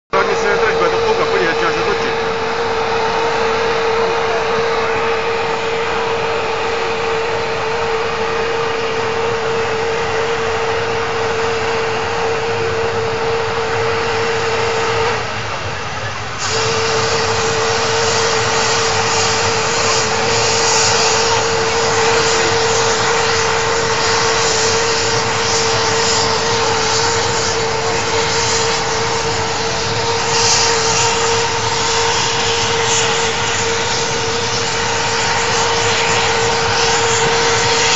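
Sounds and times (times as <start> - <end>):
high steady turbine whine: 0.0 - 37.9
helicopter engines and rotor running: 0.1 - 37.9.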